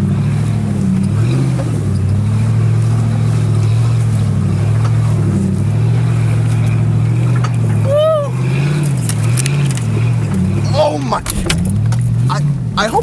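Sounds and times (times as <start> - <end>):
car engine at low revs under load: 0.0 - 13.0.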